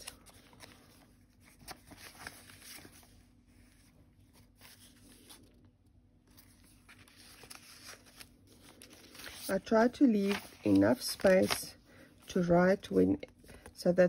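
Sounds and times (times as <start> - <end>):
paper pages rustling: 0.0 - 12.6.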